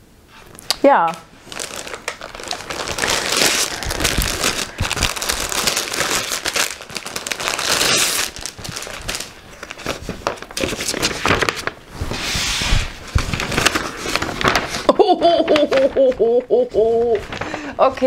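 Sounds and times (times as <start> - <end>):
plastic packaging crinkling: 0.5 - 11.9, 12.9 - 16.2.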